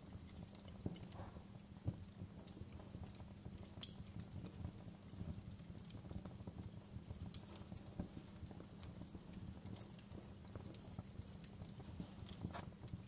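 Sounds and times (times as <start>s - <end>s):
low steady rumble: 0.0s - 13.0s
wood fire crackling: 0.0s - 13.0s.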